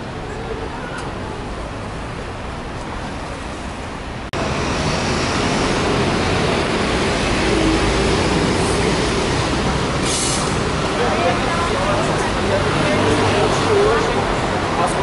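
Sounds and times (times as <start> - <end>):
city traffic rumble and hiss: 0.0 - 15.0.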